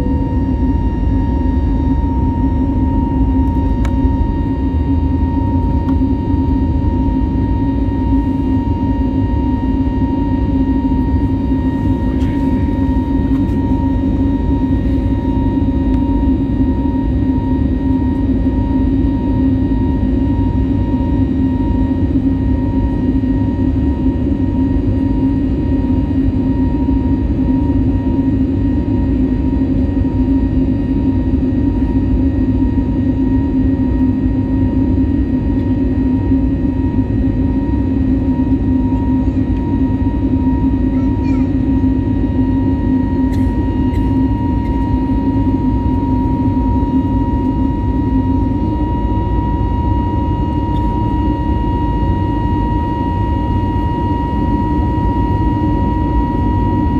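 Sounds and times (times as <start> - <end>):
aircraft engine and airflow noise: 0.0 - 56.9
thin steady whine: 0.0 - 56.9.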